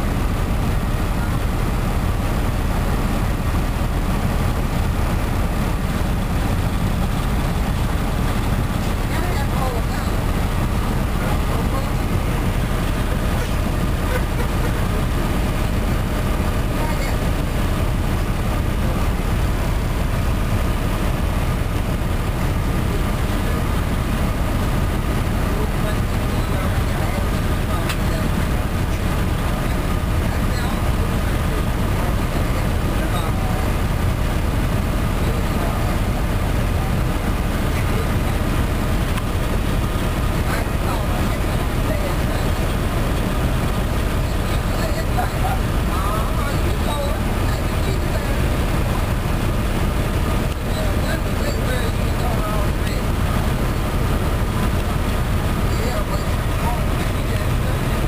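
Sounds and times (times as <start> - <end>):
air conditioning: 0.0 - 58.0
diesel engine rumbling: 0.0 - 58.0
faint steady whine: 0.0 - 58.0.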